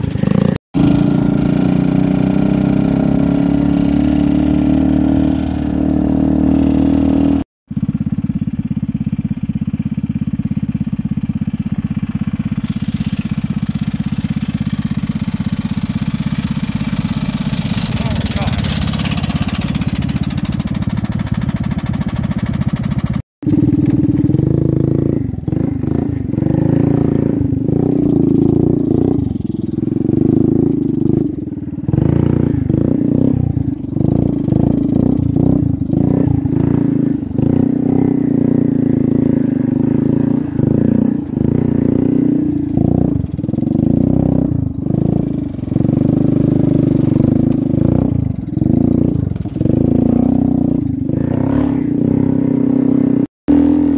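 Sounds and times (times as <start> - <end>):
off-road vehicle engines revving: 0.0 - 53.9.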